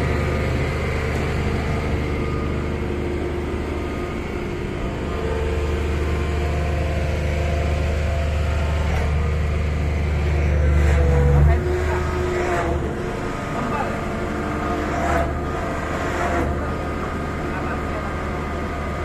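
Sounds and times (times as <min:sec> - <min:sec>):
heavy machinery engine droning: 0:00.0 - 0:19.0.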